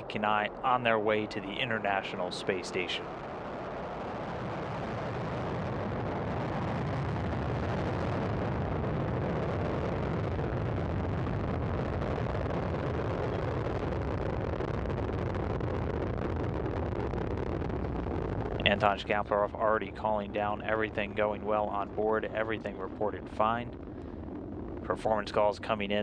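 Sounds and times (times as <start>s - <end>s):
rocket engine roar: 0.0s - 26.0s.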